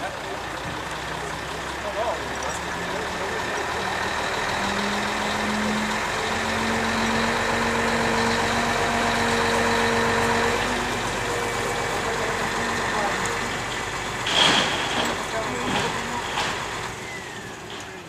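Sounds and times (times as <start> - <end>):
crane engine running: 0.0 - 18.0.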